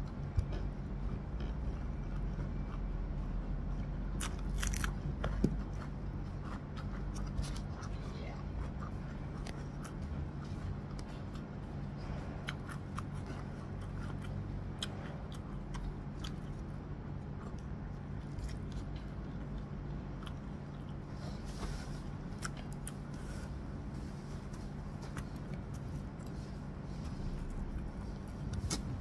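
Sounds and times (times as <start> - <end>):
person chewing food: 0.0 - 29.0
steady low hum: 0.0 - 29.0.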